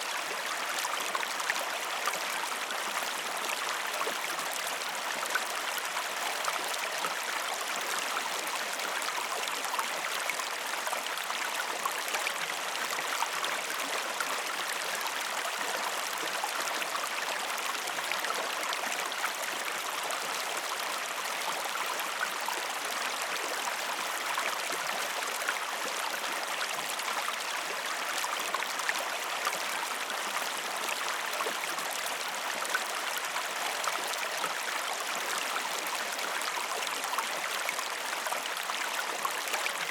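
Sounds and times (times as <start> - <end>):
stream cascading over rocks: 0.0 - 39.9.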